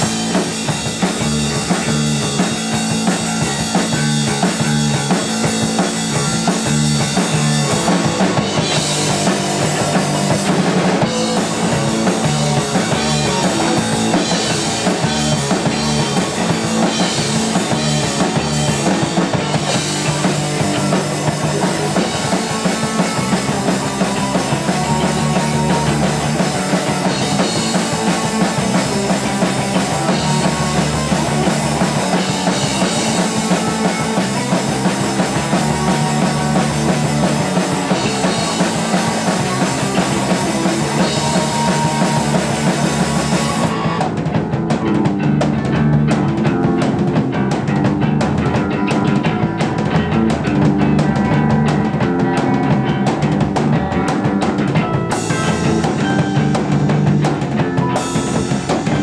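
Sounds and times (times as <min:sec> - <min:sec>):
driving drums: 0:00.0 - 0:59.0
heavy bass line: 0:00.0 - 0:59.0
rock band playing live: 0:00.0 - 0:59.0.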